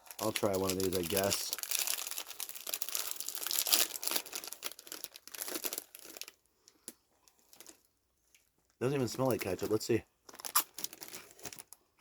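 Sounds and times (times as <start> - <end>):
plastic snack bag crinkling: 0.0 - 11.9.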